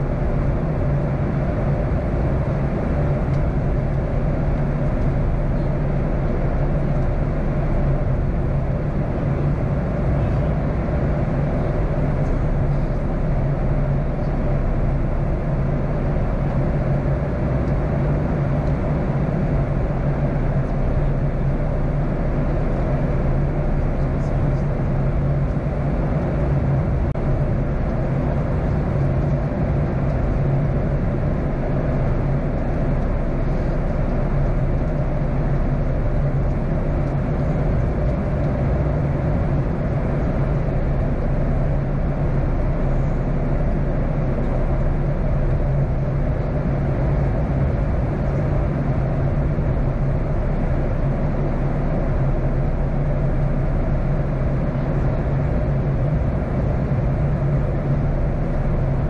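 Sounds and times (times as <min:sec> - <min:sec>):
jet engine low hum: 0:00.0 - 0:59.0.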